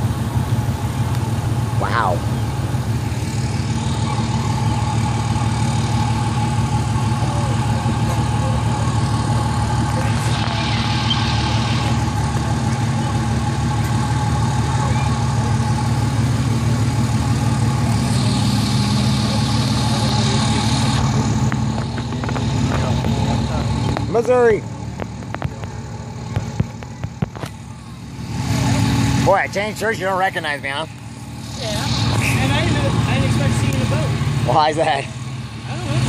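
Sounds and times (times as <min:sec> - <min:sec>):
truck engines idling: 0:00.0 - 0:36.0.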